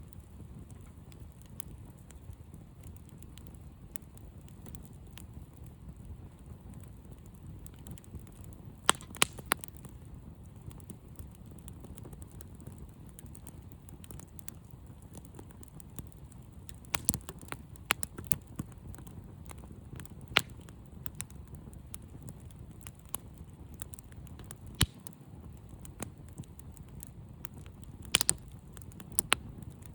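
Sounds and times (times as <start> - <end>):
burning wood crackling and popping: 0.0 - 29.9
campfire low rumble: 0.0 - 29.9.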